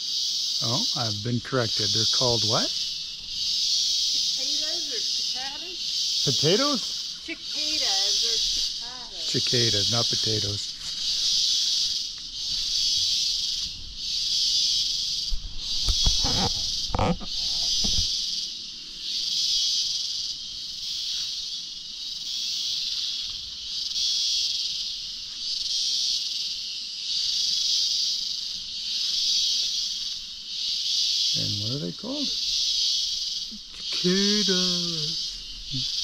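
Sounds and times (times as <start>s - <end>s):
cicadas buzzing: 0.0s - 36.0s.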